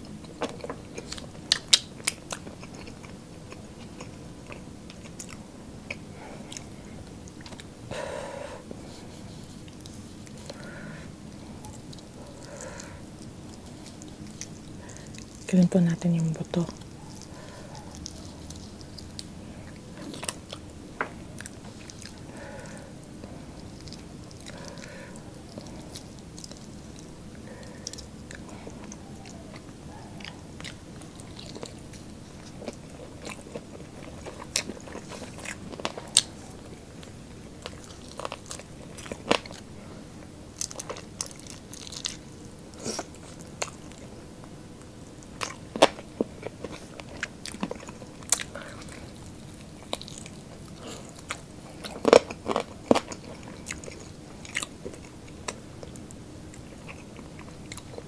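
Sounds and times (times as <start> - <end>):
chewing and crunching chicken wings: 0.0 - 58.0.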